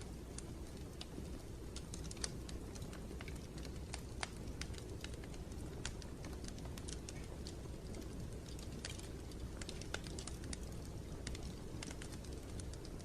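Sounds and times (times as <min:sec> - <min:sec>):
light clicks and ticks: 0:00.0 - 0:13.0
low steady rumble: 0:00.0 - 0:13.0.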